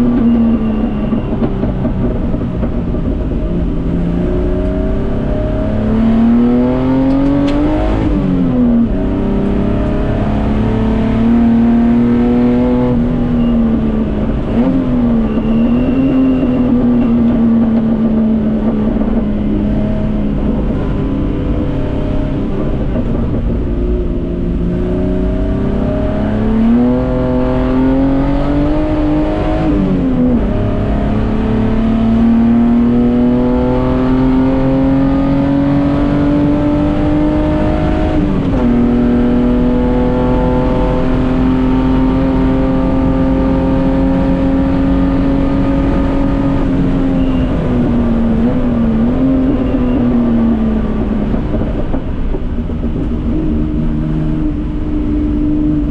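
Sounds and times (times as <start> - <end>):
race car engine under load: 0.0 - 55.9.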